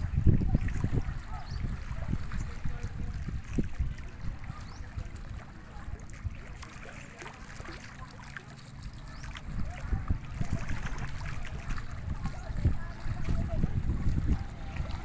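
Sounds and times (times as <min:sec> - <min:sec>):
wind rumbling on microphone: 0:00.0 - 0:06.9, 0:08.7 - 0:15.0
small waves lapping: 0:00.0 - 0:15.0.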